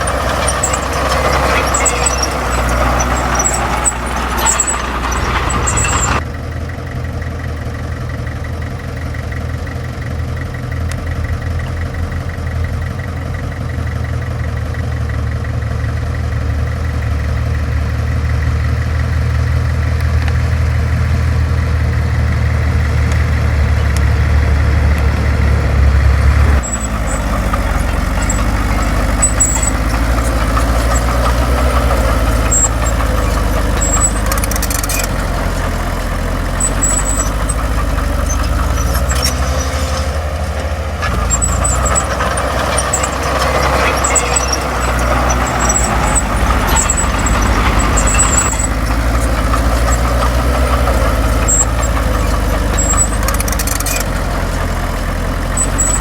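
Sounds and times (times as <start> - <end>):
clattering machine noise: 0.0 - 56.0
heavy diesel engine rumbling: 0.0 - 56.0.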